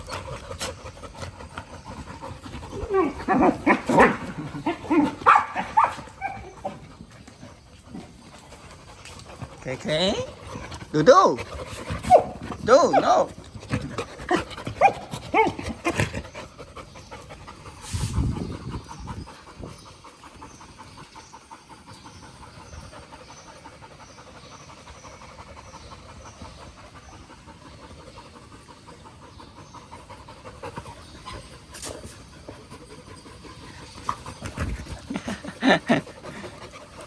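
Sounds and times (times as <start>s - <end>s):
dog panting: 0.0s - 37.0s.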